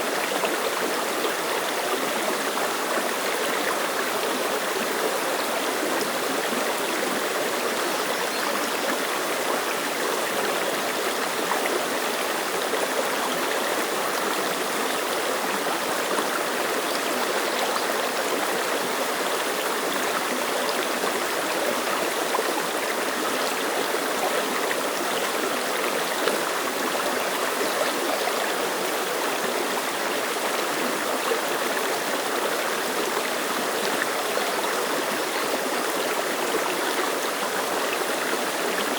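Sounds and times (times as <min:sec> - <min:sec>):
stream splashing over rocks: 0:00.0 - 0:38.9.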